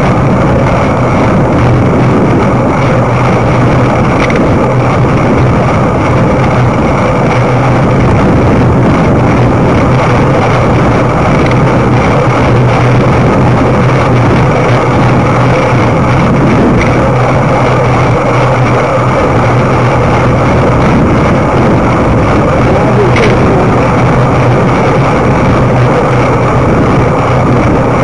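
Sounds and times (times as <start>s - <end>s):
low hum: 0.0s - 28.0s
wind rushing over microphone: 0.0s - 28.0s.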